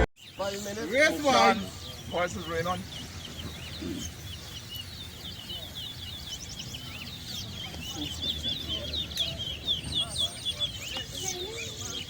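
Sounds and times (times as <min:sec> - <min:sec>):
finches whistling chirps: 0:00.2 - 0:12.0.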